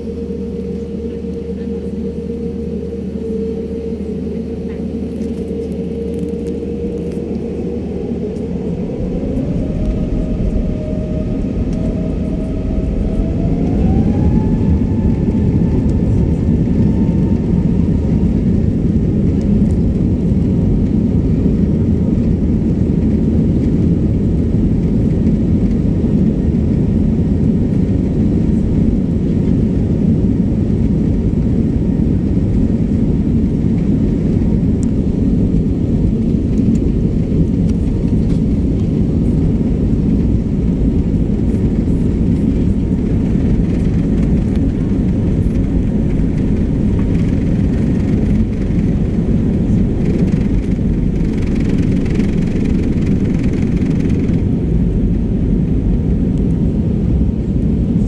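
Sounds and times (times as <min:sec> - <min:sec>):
airliner cabin low rumble: 0:00.0 - 0:58.0.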